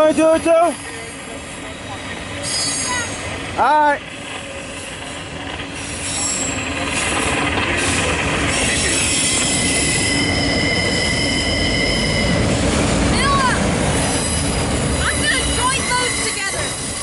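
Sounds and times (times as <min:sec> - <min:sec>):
freight train rumbling past: 0:00.0 - 0:17.0
train wheels squealing on rail: 0:00.1 - 0:03.5, 0:04.1 - 0:17.0.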